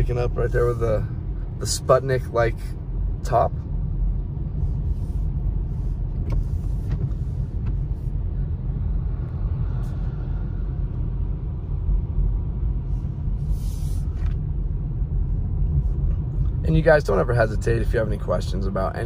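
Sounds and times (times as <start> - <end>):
car driving on wet pavement: 0.0 - 19.0.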